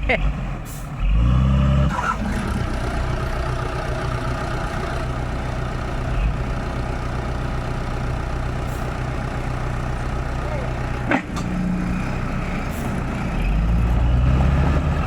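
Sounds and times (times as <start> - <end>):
heavy diesel engine idling: 1.8 - 15.0.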